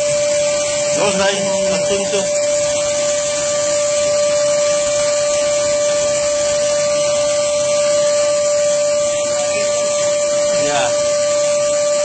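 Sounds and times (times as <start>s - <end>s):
shop vacuum motor whine: 0.0s - 12.0s.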